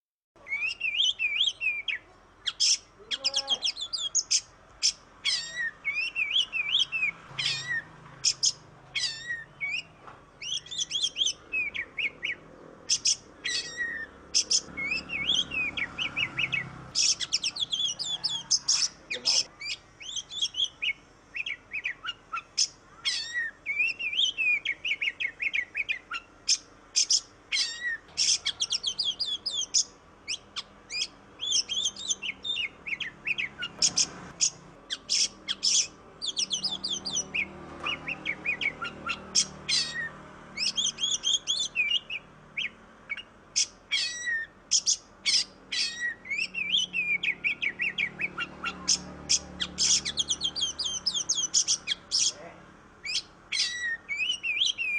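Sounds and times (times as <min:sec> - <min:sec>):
songbird whistling and chattering: 0:00.4 - 0:54.9.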